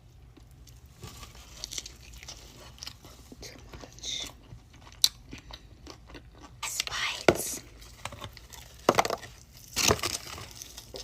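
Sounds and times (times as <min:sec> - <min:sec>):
crunchy chewing of food: 0:00.1 - 0:11.0.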